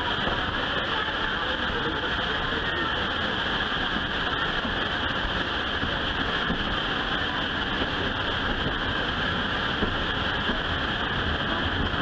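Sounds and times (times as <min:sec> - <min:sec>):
moving train running noise: 0:00.0 - 0:12.0.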